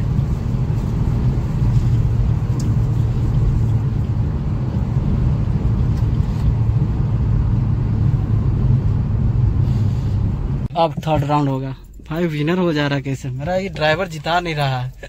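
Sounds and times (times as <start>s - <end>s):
car engine drone: 0.0s - 12.2s
road and wind noise: 0.0s - 15.0s.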